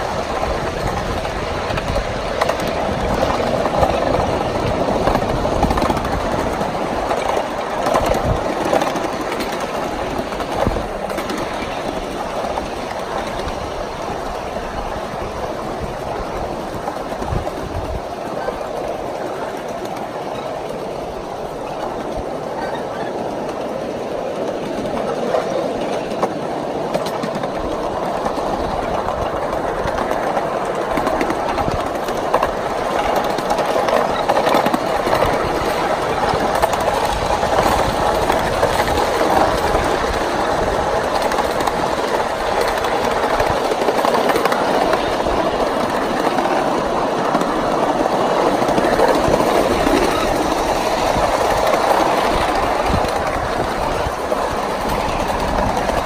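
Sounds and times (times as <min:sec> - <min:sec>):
rail joint clicks: 0:00.0 - 0:56.0
small wheels rattling on rails: 0:00.0 - 0:56.0.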